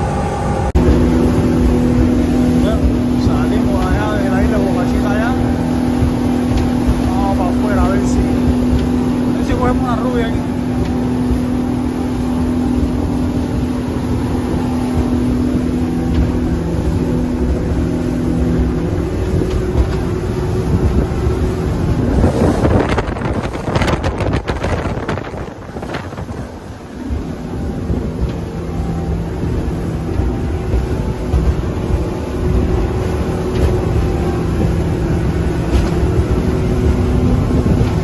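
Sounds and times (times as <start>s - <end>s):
outboard motors running: 0.0s - 38.0s
water rushing past hull: 0.0s - 38.0s
wind buffeting microphone: 0.0s - 38.0s.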